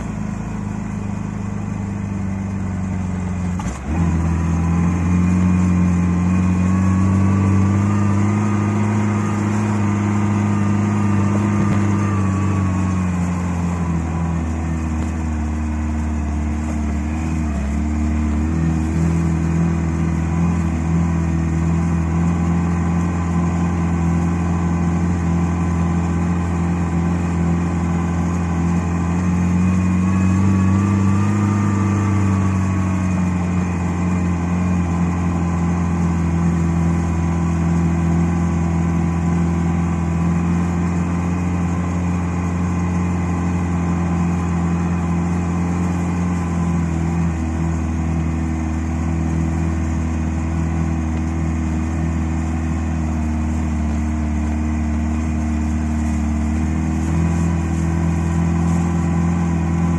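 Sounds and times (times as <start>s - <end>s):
car engine drone from cabin: 0.0s - 59.9s.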